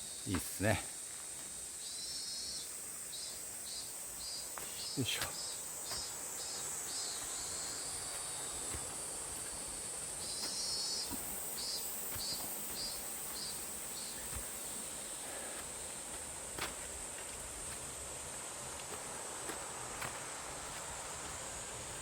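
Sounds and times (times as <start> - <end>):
high-pitched insect drone: 1.7 - 22.0.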